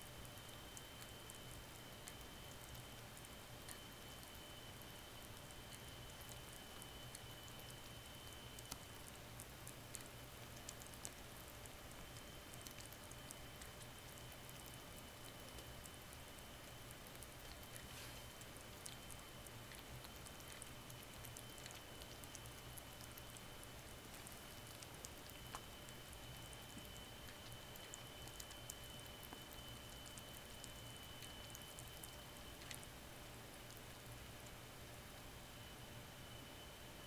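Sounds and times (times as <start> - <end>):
steady hiss: 0.0 - 37.0
thin high whine: 0.0 - 37.0
kitten licking metal nozzle: 0.6 - 32.9.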